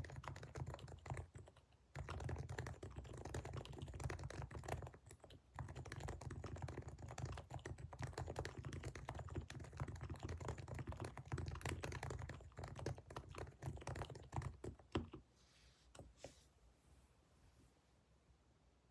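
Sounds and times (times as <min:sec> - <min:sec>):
fast keyboard typing: 0:00.0 - 0:15.2.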